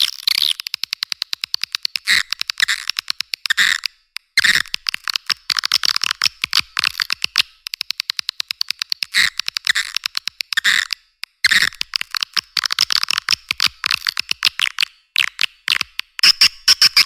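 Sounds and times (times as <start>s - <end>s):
swiftlet clicks and chirps: 0.0s - 17.0s.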